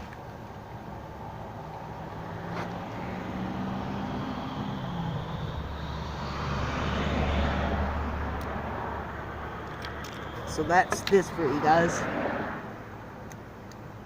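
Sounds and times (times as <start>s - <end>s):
road vehicle approaching: 0.0s - 14.0s.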